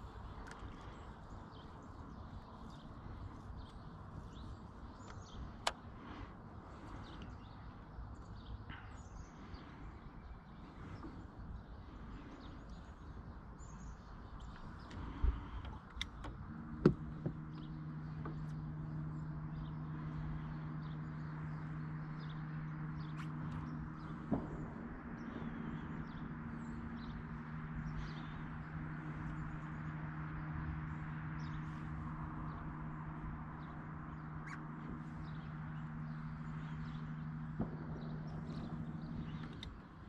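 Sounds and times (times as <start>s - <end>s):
outdoor background noise: 0.0s - 40.0s
small birds chirping: 0.0s - 40.0s
steady low hum: 0.0s - 40.0s.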